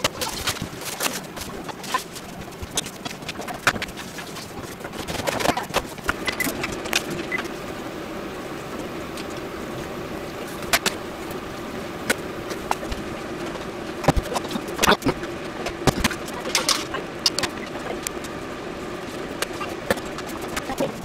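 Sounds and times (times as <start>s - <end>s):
gas burner hum: 0.0s - 21.0s.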